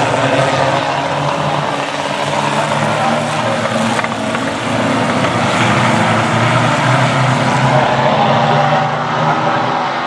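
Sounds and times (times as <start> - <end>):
racing car engines: 0.0 - 10.0.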